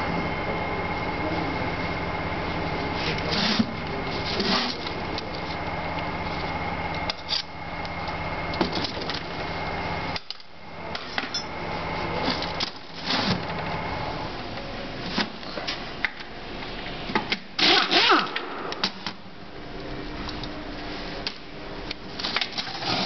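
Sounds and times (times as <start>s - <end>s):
workshop machine hum: 0.0s - 23.0s.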